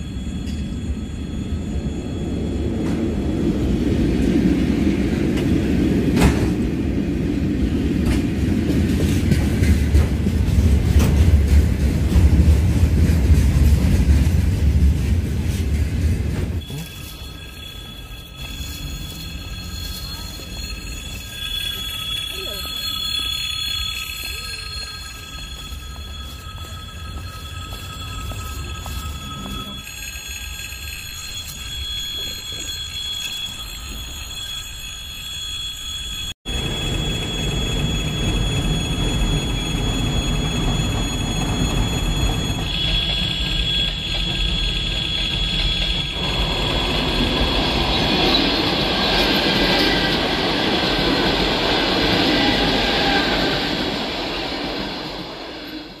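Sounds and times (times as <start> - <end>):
railway crossing warning tones: 0.0 - 56.0
train passing on rails: 0.0 - 56.0.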